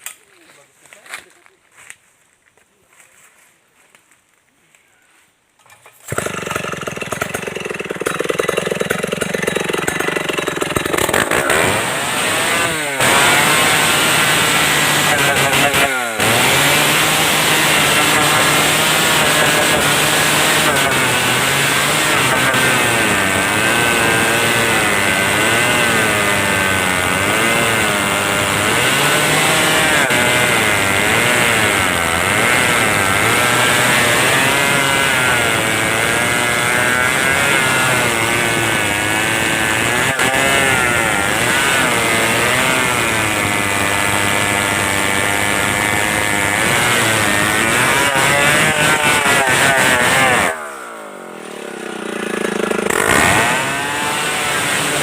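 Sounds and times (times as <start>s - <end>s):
chainsaw cutting wood: 5.6s - 55.0s.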